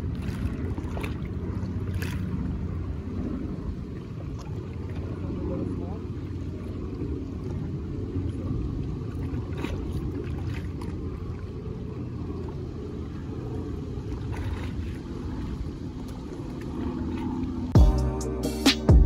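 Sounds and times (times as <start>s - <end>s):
wind rumble on microphone: 0.0s - 17.8s.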